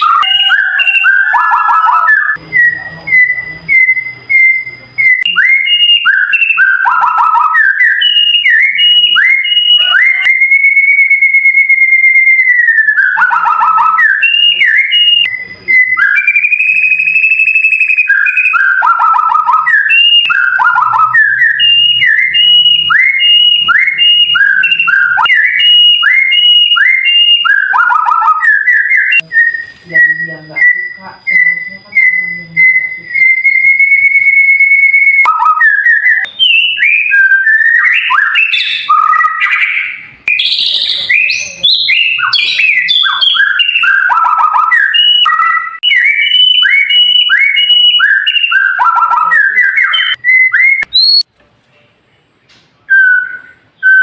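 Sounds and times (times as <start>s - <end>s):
bird rolling trill: 0.0s - 11.7s, 16.0s - 51.2s
bird singing whistled notes: 0.0s - 51.3s, 52.9s - 54.0s.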